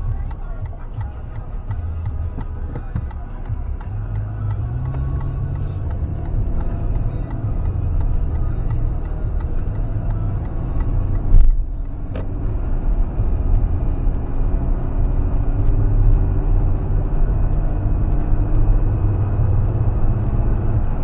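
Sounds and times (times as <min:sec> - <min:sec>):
road and engine rumble in car cabin: 0:00.0 - 0:21.0.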